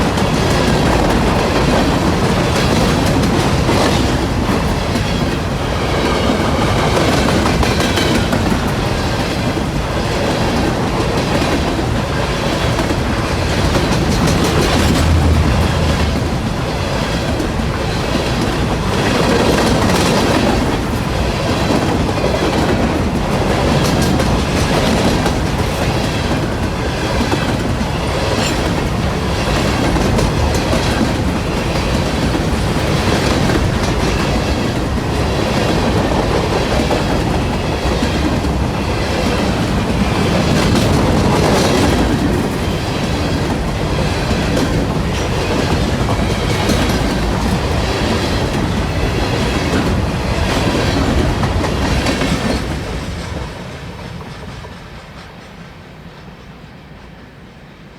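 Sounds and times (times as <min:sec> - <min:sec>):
train wheels clicking over rail joints: 0:00.0 - 0:56.6.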